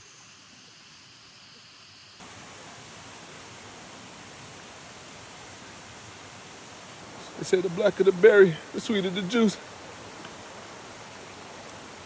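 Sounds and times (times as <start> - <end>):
rushing outdoor ambience: 1.9 - 12.0.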